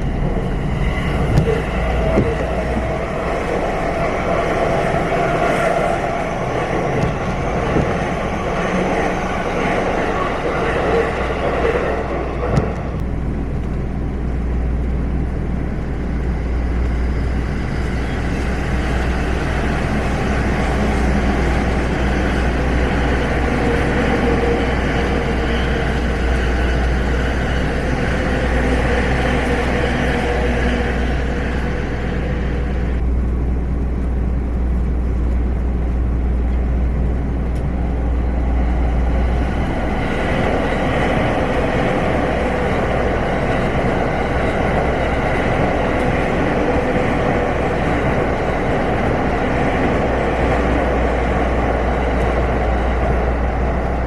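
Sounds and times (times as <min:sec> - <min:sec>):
vehicles rumbling: 0:00.0 - 0:54.0.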